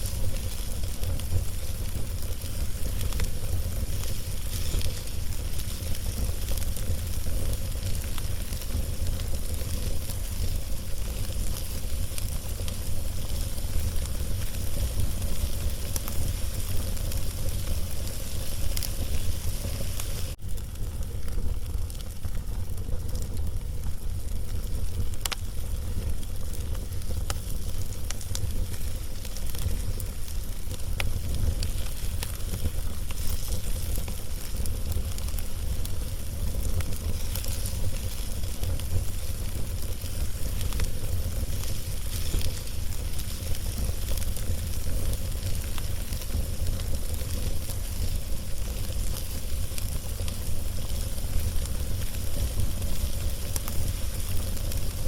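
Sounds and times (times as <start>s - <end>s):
log fire crackling: 0.0s - 55.0s
low fire rumble: 0.0s - 55.0s
steady hiss: 0.0s - 55.0s.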